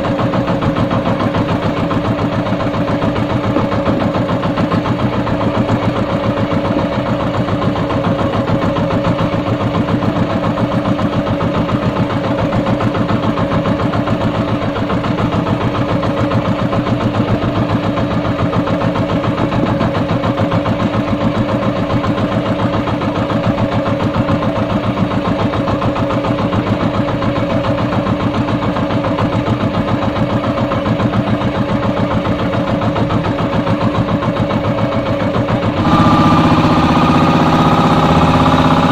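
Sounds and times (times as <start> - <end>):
boat engine pulsing: 0.0 - 38.9.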